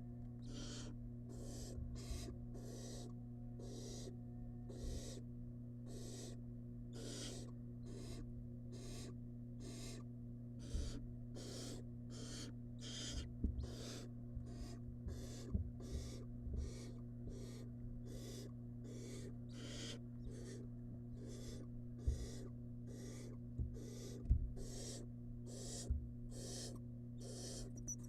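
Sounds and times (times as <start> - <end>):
electrical hum: 0.0 - 28.0
owl nestlings hissing: 0.4 - 4.1, 4.7 - 5.2, 5.9 - 28.0.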